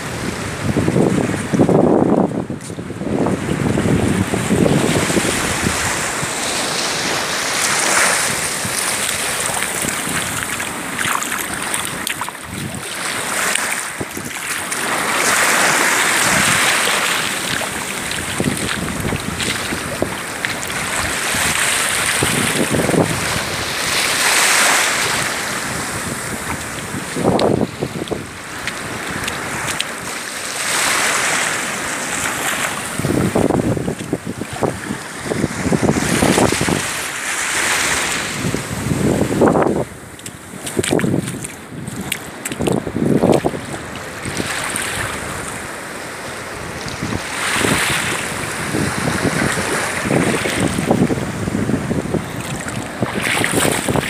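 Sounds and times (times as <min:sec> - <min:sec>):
wind buffeting microphone: 0:00.0 - 0:30.1, 0:30.8 - 0:54.0
small waves washing on sand: 0:00.0 - 0:54.0.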